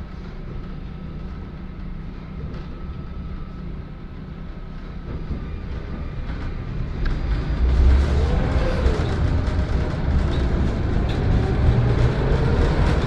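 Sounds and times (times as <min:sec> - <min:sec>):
tram wheels rumbling on rails: 0:00.0 - 0:13.0.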